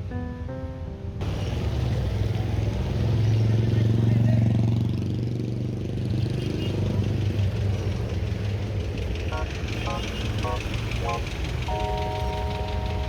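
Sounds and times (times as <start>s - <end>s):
traffic engines rumbling: 1.2s - 13.0s.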